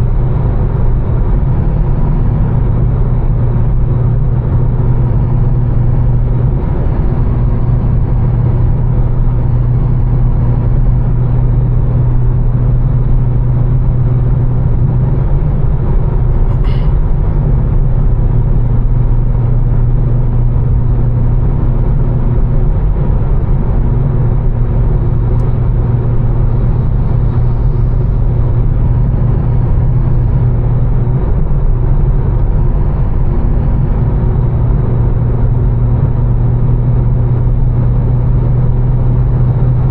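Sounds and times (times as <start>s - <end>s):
low engine drone: 0.0s - 39.9s
tyre and road noise: 0.0s - 39.9s.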